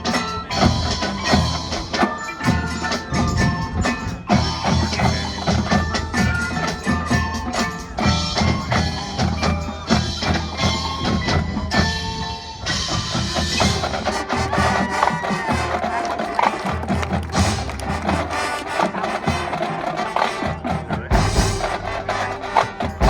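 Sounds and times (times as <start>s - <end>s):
dense percussion: 0.0s - 19.5s, 20.6s - 23.0s
marching band playing: 0.0s - 23.0s
ringing bells and marimba: 0.0s - 23.0s.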